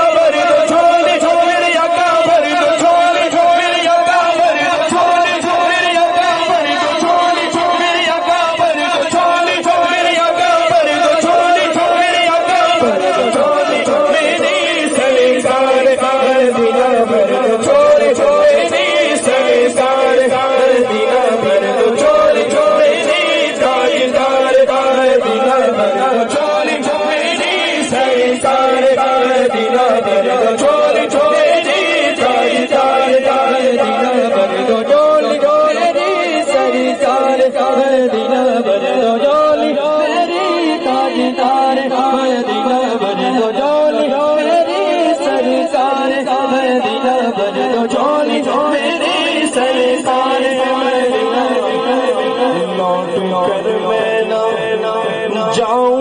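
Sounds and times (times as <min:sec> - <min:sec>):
man singing devotional chant: 0:00.0 - 0:56.0.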